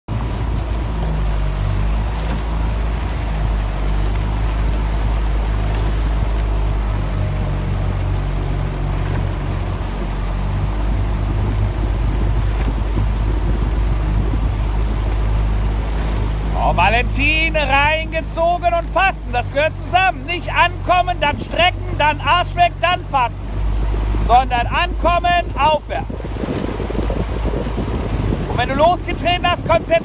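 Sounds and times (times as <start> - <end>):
outboard engine running: 0.1 - 30.0
water rushing: 0.1 - 30.0
wind: 0.1 - 30.0.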